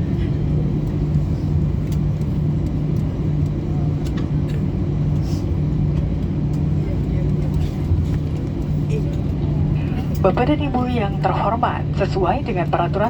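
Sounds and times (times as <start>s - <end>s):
aircraft cabin hum: 0.0s - 13.0s.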